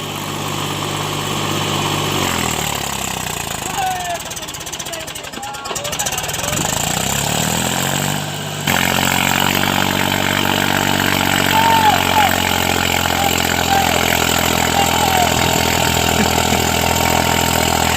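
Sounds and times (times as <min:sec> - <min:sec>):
small tractor engine running: 0:00.0 - 0:17.9.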